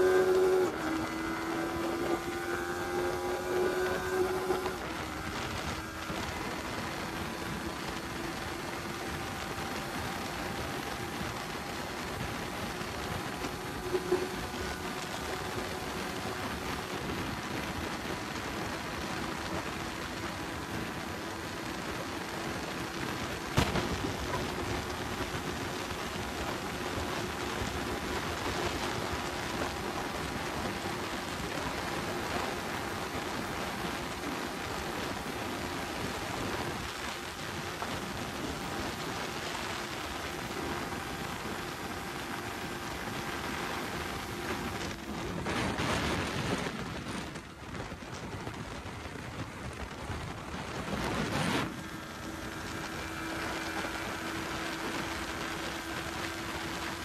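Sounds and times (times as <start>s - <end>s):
faint motorcycle engine: 0.0s - 57.0s
wind rushing over microphone: 0.0s - 57.0s.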